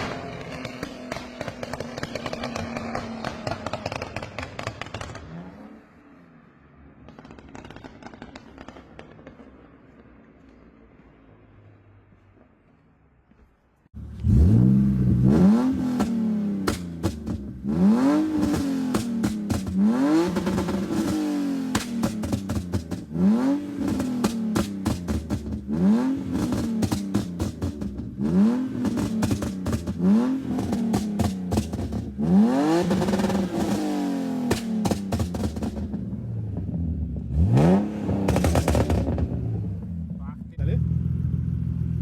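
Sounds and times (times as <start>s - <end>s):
car engine revving: 0.0s - 6.3s, 14.0s - 42.0s.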